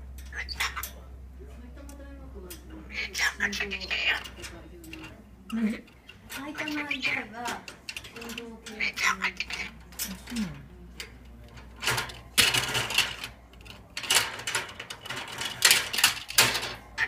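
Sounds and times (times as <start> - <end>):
bird rattling plastic toys in cage: 2.5 - 17.0.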